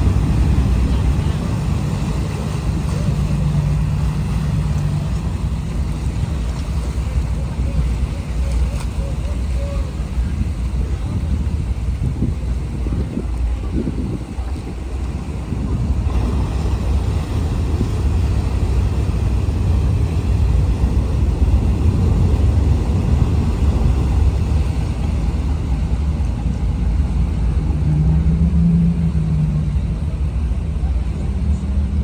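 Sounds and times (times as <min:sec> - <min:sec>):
ferry diesel engine rumble: 0:00.0 - 0:32.0
propeller churning water: 0:00.0 - 0:32.0.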